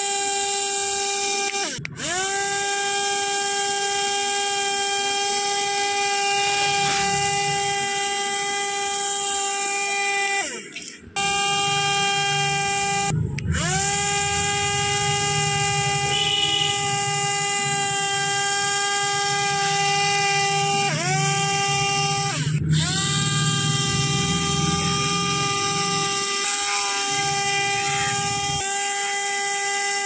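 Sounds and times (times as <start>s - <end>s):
small motor spinning propeller whine: 0.0s - 30.0s.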